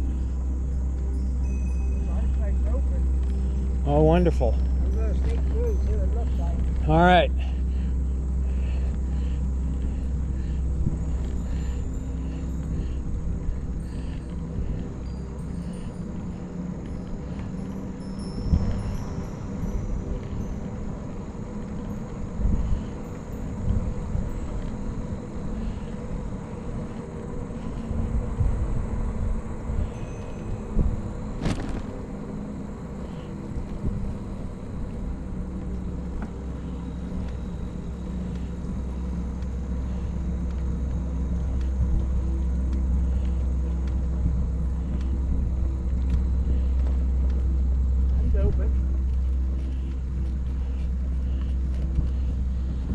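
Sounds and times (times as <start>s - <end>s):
wind and road rumble: 0.0s - 52.9s.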